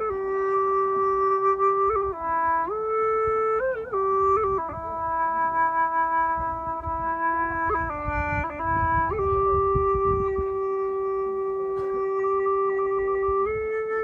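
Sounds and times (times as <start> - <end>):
bamboo flute slow melody: 0.0 - 14.0.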